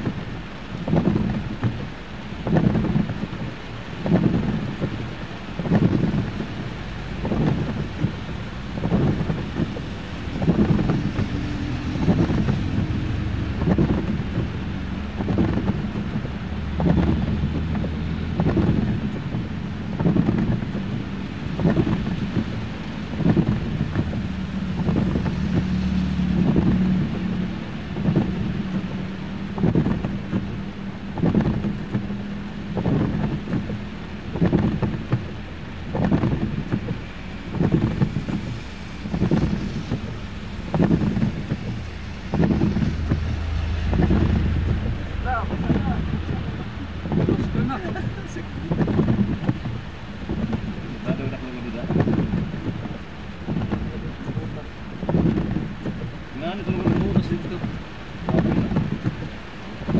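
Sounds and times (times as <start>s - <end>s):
heavy rain: 0.0s - 59.9s
wind buffeting microphone: 0.0s - 59.9s
vehicle engine running: 3.6s - 59.9s.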